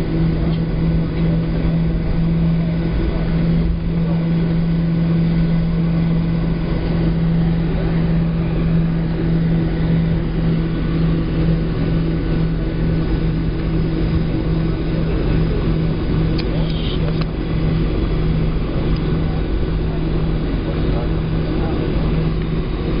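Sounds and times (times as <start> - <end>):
airplane engines droning: 0.0 - 23.0.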